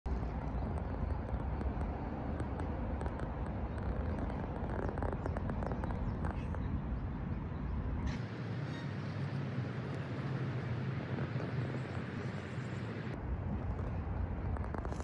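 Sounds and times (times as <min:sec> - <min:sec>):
wind buffeting microphone: 0:00.1 - 0:08.4, 0:09.5 - 0:15.0.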